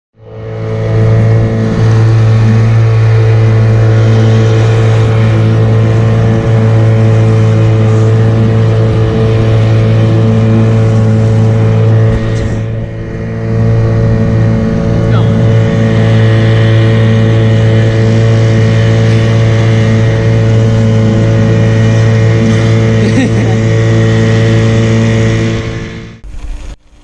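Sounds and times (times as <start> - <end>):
outboard motor droning: 0.1 - 27.0.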